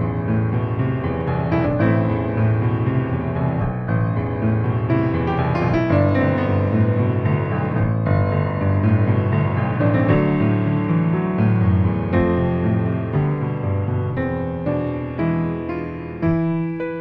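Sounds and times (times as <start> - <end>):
slow piano hymn: 0.0 - 17.0.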